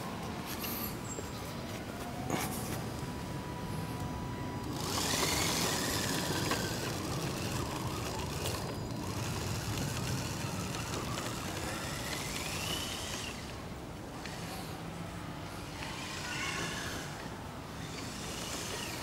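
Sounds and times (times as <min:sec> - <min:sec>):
rc truck motor whining: 0:03.5 - 0:19.0.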